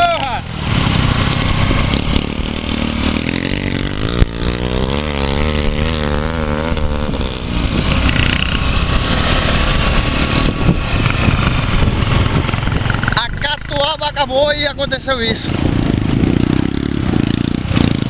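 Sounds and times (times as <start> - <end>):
motorcycle engine revving: 0.0 - 18.0
steady rushing noise: 0.0 - 18.0.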